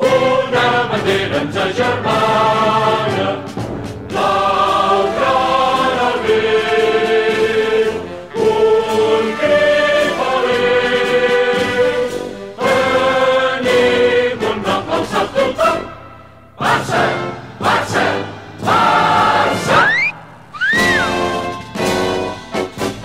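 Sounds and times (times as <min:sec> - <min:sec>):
choir singing held chords: 0:00.0 - 0:21.2.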